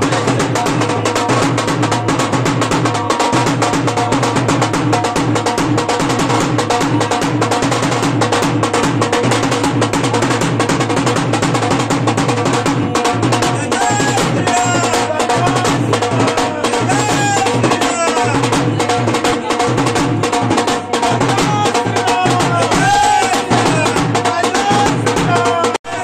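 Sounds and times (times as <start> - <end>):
drums fast beat: 0.0 - 26.0.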